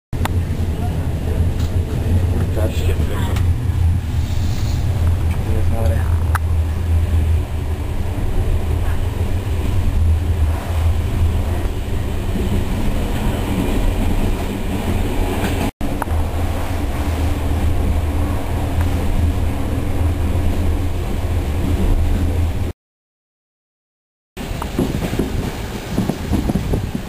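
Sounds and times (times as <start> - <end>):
train rumbling along track: 0.2 - 22.7, 24.4 - 27.0.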